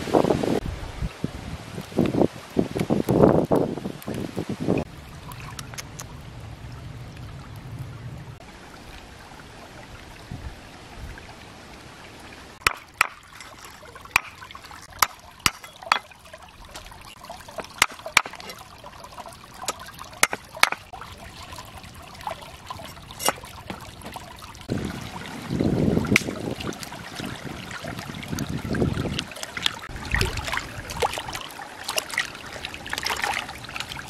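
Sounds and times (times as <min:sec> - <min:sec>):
stream trickling: 0:00.2 - 0:34.0.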